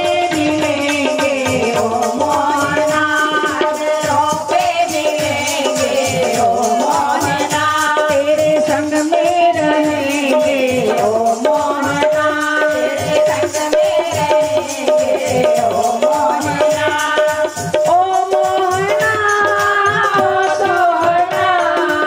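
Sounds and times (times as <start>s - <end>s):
fast percussion beat: 0.0s - 22.0s
women singing into microphones: 0.0s - 22.0s.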